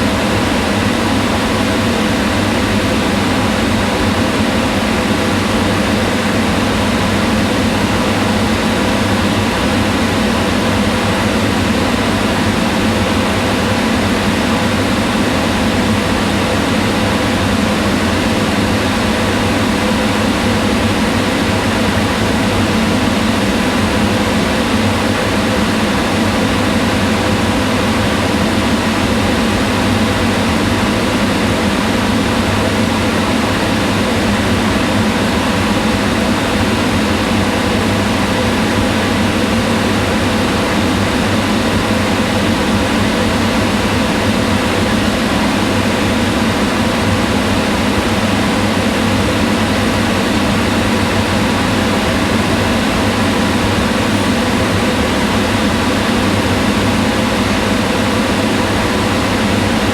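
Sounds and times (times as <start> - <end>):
range hood exhaust fan running: 0.0 - 59.9.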